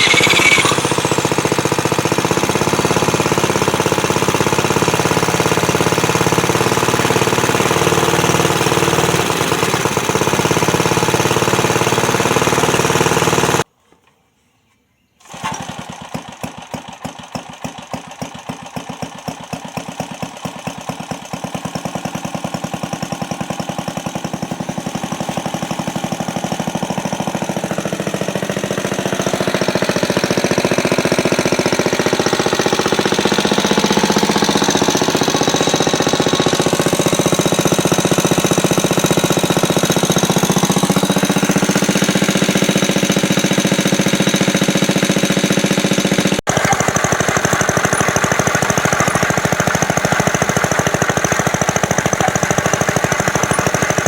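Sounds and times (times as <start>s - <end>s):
small mower engine starting and running: 0.0s - 14.2s, 15.2s - 54.0s.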